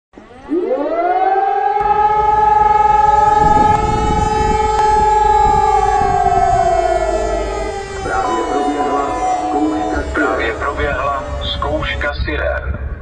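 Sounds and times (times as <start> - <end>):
electronic siren wailing: 0.2 - 12.6.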